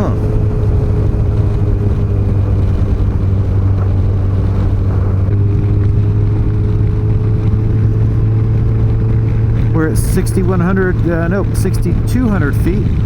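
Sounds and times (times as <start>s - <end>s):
motorcycle engine droning: 0.0s - 13.0s
wind and road rush: 0.0s - 13.0s.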